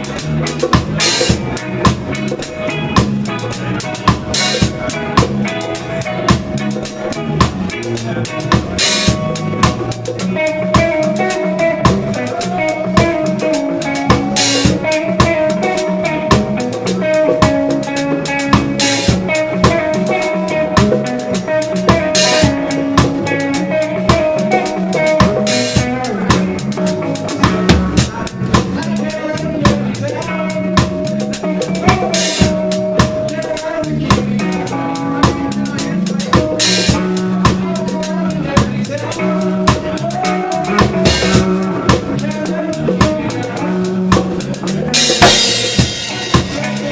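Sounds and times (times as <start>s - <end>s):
drums struck: 0.0s - 46.9s
reggae band playing: 0.0s - 46.9s.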